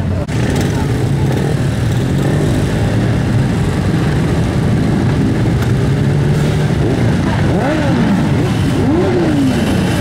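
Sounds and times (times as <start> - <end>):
motorcycle engines idling: 0.0 - 10.0.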